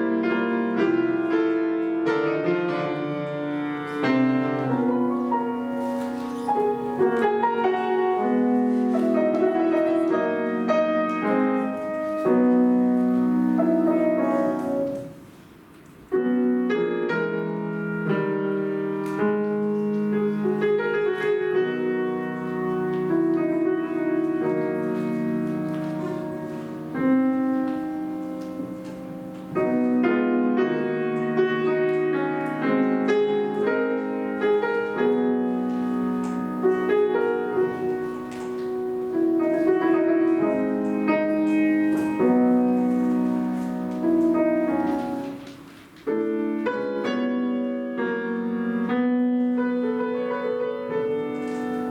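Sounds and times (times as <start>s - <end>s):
piano music: 0.0s - 51.9s.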